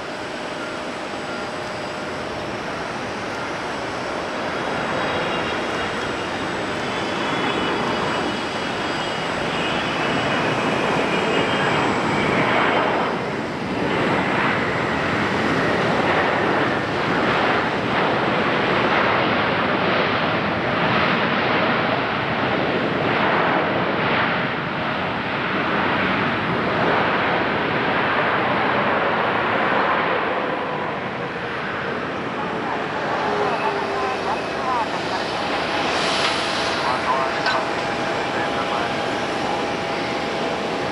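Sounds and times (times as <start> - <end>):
jet engine whine falling: 0.0 - 40.9
jet engines roaring: 0.0 - 40.9.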